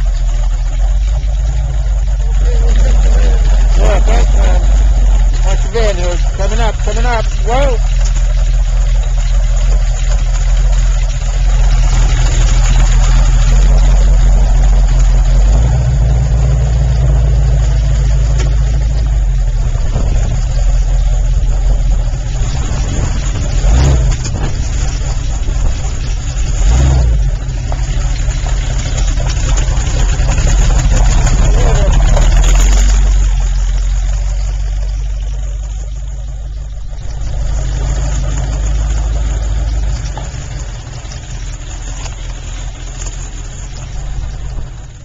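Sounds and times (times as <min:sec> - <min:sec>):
engine rumbling: 0:00.0 - 0:45.0
engine throttle surges: 0:00.0 - 0:45.0.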